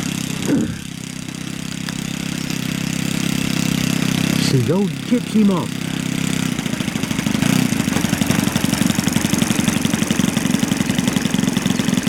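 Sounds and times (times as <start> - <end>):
model plane engine running: 0.0 - 12.0.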